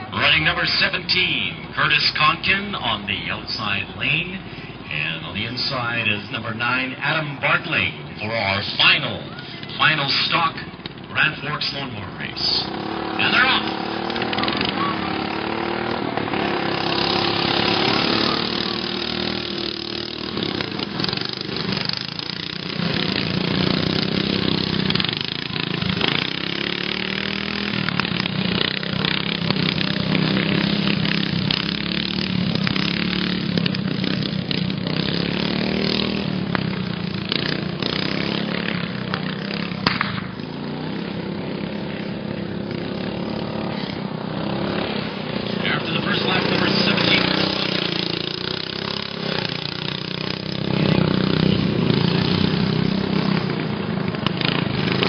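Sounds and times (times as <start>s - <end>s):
lawn mower engines revving: 0.0s - 55.0s.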